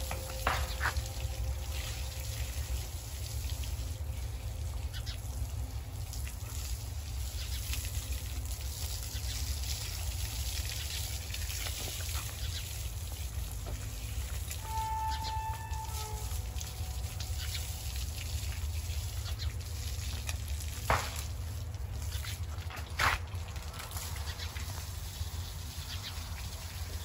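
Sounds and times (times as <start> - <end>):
hose water spraying and splashing: 0.0 - 27.0
steady low rumble: 0.0 - 27.0
water trickling on brick paving: 0.0 - 27.0.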